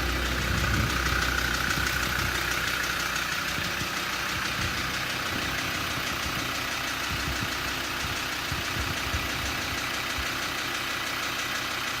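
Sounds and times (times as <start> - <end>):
diesel engine idling with clacking: 0.0 - 12.0.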